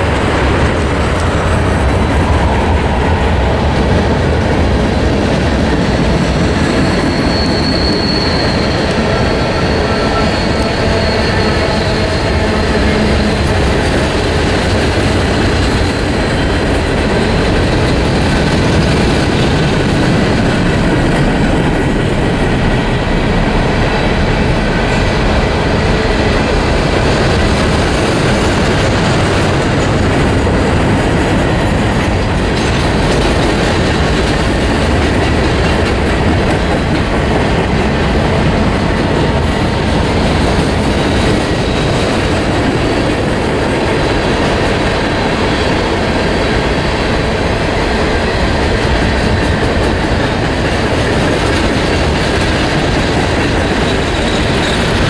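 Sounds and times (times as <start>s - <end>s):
freight cars rumbling: 0.0s - 55.0s.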